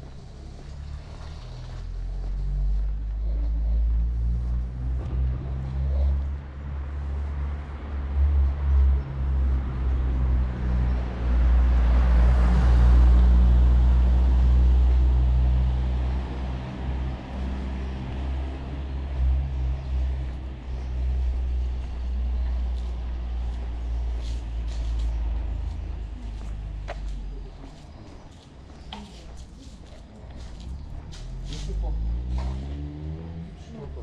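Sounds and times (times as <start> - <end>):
low engine hum: 0.0 - 34.0
car passing close: 3.9 - 28.2, 30.2 - 34.0.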